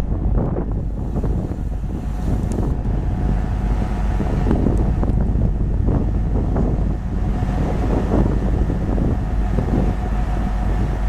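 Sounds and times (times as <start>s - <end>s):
diesel train running past: 0.0s - 11.0s
wind buffeting microphone: 0.0s - 11.0s.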